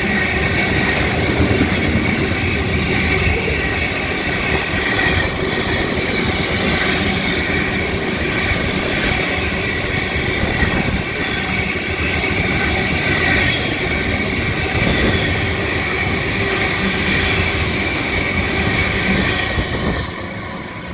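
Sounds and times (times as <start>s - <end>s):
train wheels on rails: 0.0s - 20.9s.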